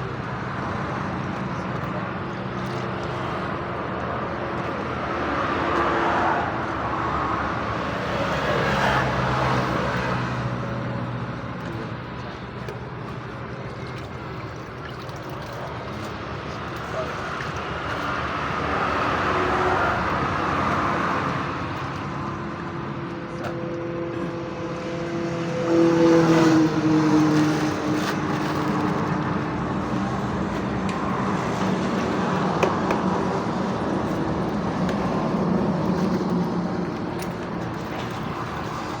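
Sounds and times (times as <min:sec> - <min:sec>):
road traffic noise: 0:00.0 - 0:39.0
vehicle passing by: 0:00.0 - 0:39.0.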